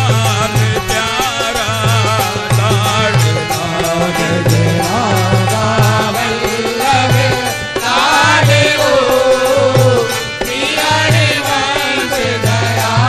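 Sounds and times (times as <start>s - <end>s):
devotional chanting: 0.0s - 13.0s.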